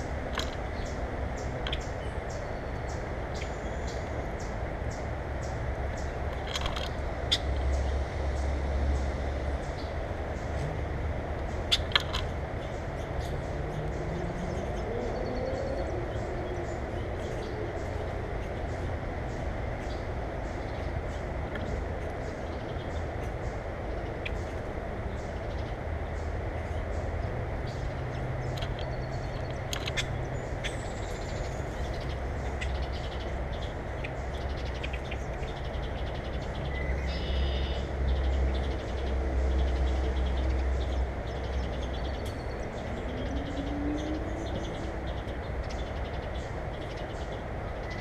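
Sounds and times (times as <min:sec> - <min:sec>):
birds calling: 0:00.0 - 0:48.0
steady low rumble: 0:00.0 - 0:48.0.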